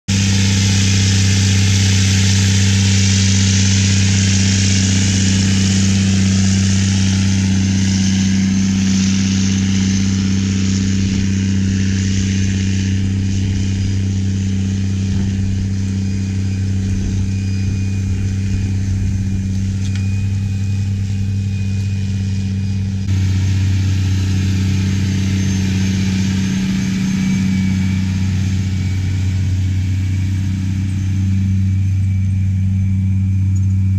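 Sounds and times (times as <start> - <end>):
tractor diesel engine under load: 0.0 - 33.9.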